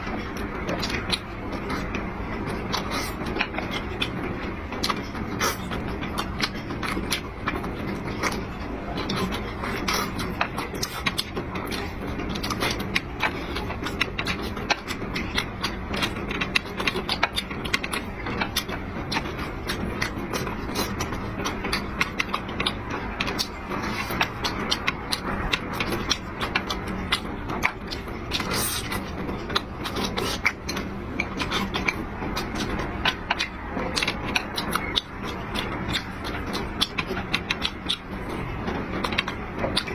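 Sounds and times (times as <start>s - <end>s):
constant background hum: 0.0s - 39.9s.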